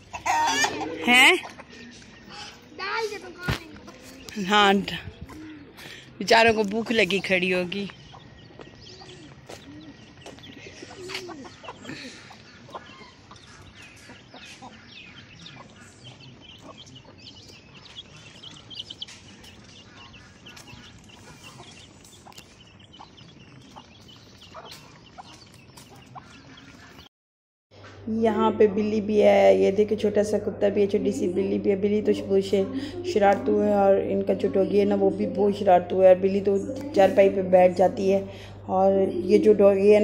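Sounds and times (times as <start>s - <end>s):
chickens clucking: 0.0s - 27.1s, 27.8s - 40.0s.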